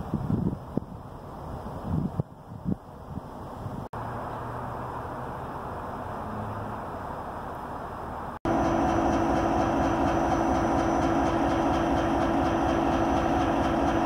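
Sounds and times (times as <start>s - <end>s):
diesel locomotive engine hum: 0.0s - 14.0s.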